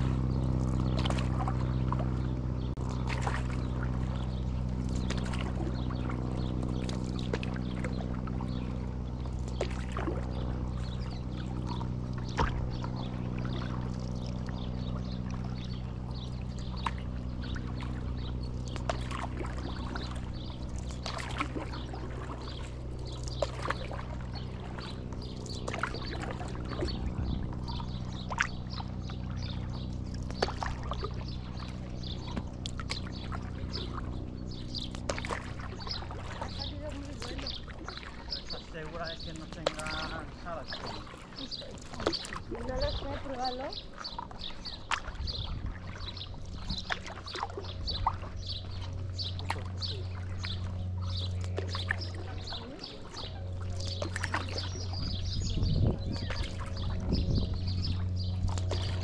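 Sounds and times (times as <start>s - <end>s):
paddle splashing water: 0.0s - 59.0s
steady low hum: 0.0s - 59.0s.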